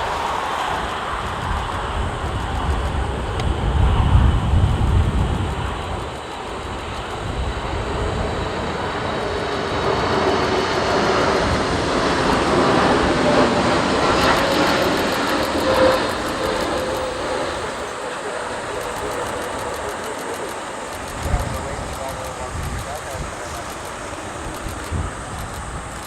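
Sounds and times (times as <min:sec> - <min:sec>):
jet engines whining: 0:00.0 - 0:26.0
wind buffeting microphone: 0:00.0 - 0:26.0.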